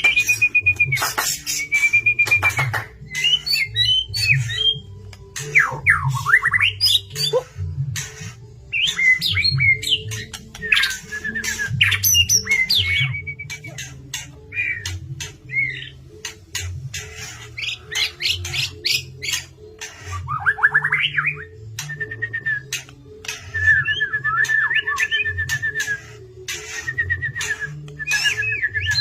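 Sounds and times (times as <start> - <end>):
bird singing with trills: 0.0 - 29.0.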